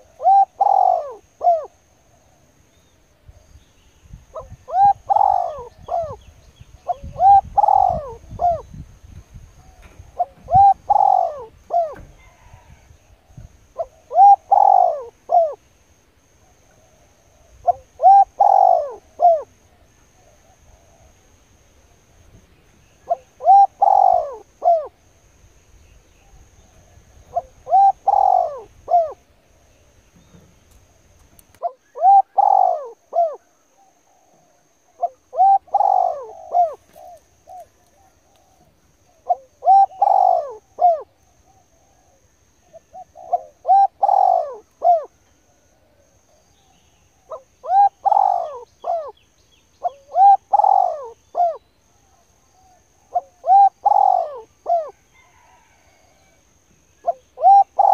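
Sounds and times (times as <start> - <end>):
bird calling: 0.0 - 3.0, 4.3 - 8.8, 9.6 - 12.7, 13.7 - 15.6, 16.6 - 21.2, 22.9 - 25.0, 25.9 - 30.5, 31.5 - 56.4, 57.0 - 57.9.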